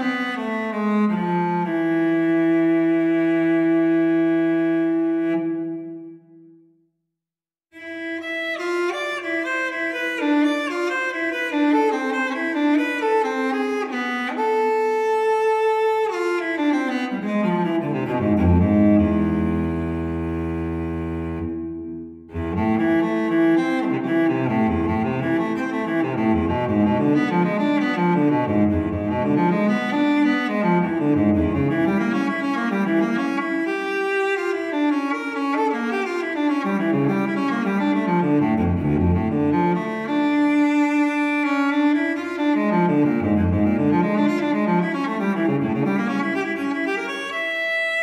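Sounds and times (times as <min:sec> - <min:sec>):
slow bowed cello melody: 0:00.0 - 0:06.4, 0:07.8 - 0:48.0.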